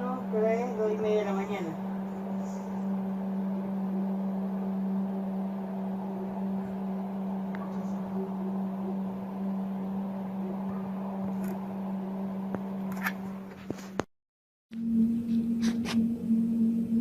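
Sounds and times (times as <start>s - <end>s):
low drone with overtones: 0.0s - 13.4s, 14.7s - 17.0s.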